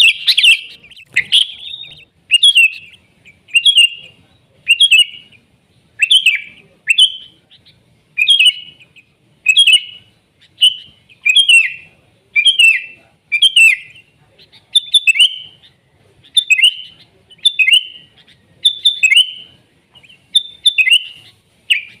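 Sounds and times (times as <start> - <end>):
bulbul singing whistled notes: 0.0 - 22.0.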